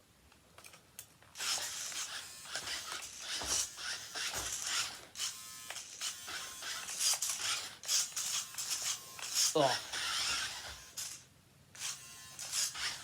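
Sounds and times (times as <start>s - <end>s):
toy car electric motor: 1.4s - 13.0s.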